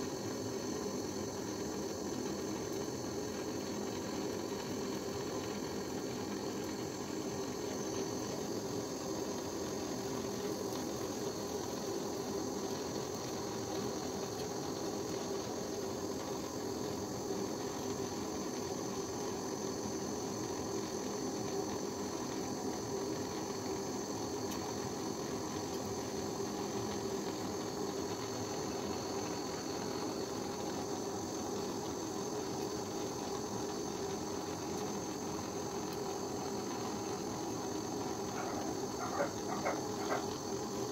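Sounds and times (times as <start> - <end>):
gas torch hissing: 0.0 - 40.9.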